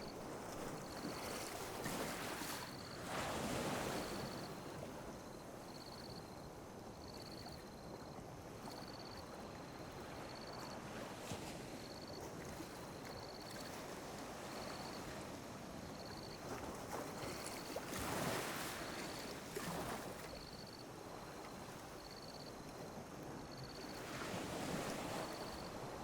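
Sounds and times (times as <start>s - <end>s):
small waves lapping on beach: 0.0s - 26.0s.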